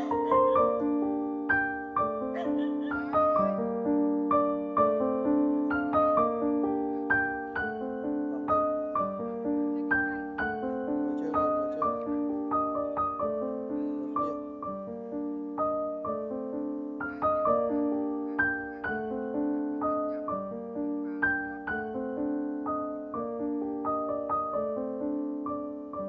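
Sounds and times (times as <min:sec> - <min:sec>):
slow solo piano melody: 0:00.0 - 0:26.0.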